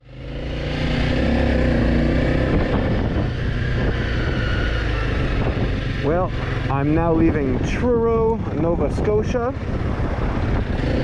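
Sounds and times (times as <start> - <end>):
motorcycle engine running: 0.0 - 11.0
wind rushing over microphone: 0.3 - 11.0.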